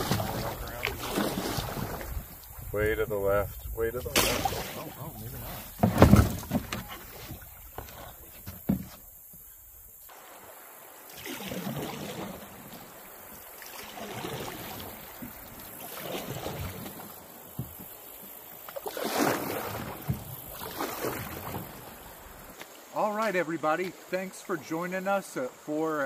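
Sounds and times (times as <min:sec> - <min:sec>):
paddles splashing in water: 0:00.0 - 0:25.7.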